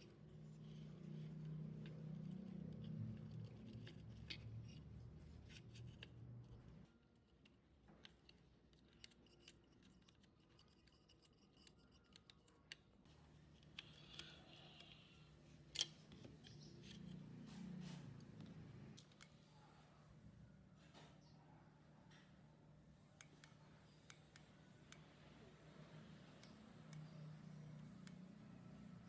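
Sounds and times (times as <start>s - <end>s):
small clicks and scrapes: 0.0s - 19.8s, 23.0s - 29.0s.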